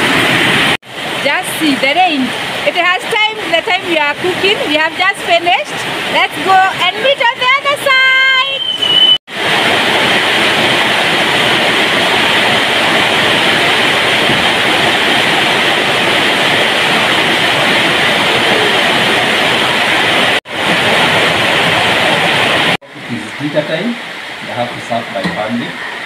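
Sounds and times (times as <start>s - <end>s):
heavy rain falling: 0.0s - 8.5s, 9.3s - 26.0s.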